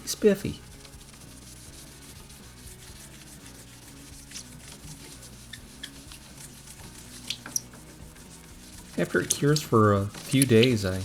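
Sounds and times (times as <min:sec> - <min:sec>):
quiet background music: 0:00.0 - 0:11.0
rubbing on guitar finish: 0:00.0 - 0:11.0.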